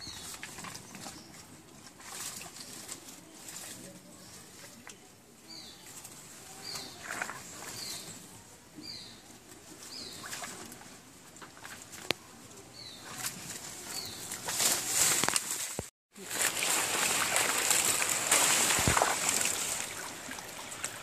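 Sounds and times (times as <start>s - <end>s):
rustling of leaves and stones: 0.0s - 21.0s.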